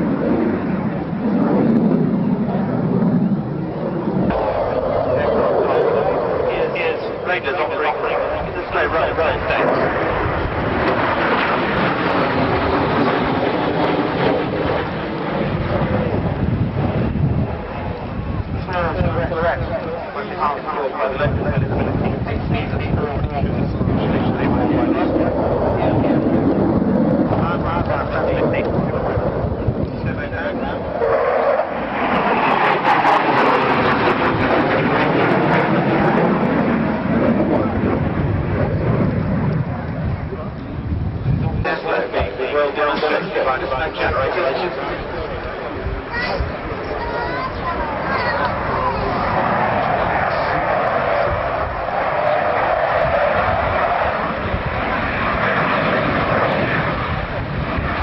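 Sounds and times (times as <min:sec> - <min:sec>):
jet aircraft flying over: 0:00.0 - 0:58.0.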